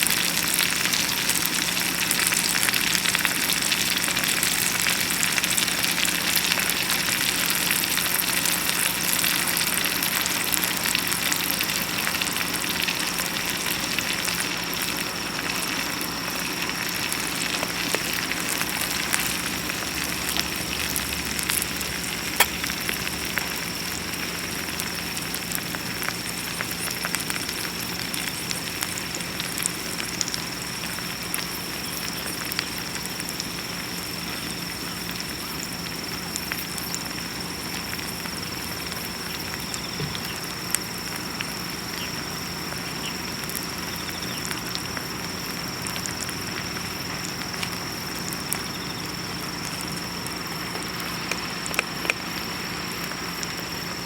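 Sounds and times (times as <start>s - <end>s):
frying pan sizzling: 0.0s - 54.0s
wood fire crackling: 0.0s - 54.0s.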